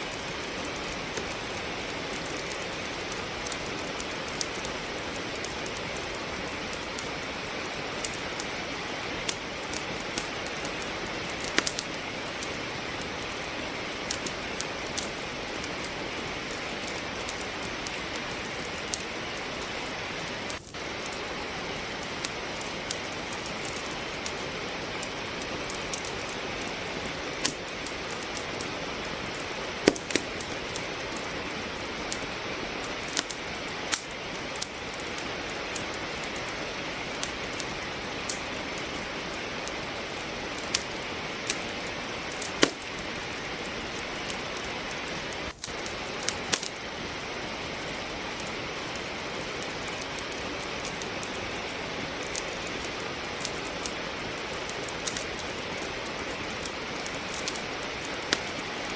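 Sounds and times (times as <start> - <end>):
steady rain: 0.0 - 58.9
wood fire crackling: 0.0 - 58.9.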